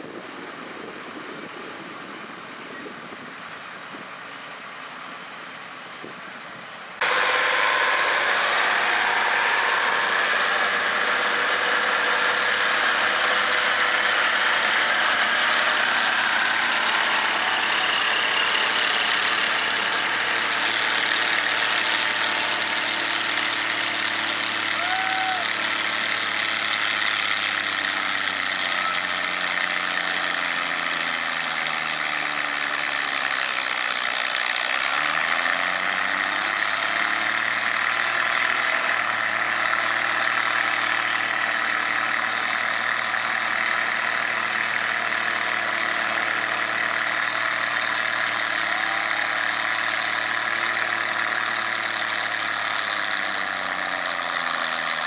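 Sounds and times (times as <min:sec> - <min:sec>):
tractor engine under heavy load: 0:00.0 - 0:55.0
tractor engine idling: 0:00.1 - 0:55.0.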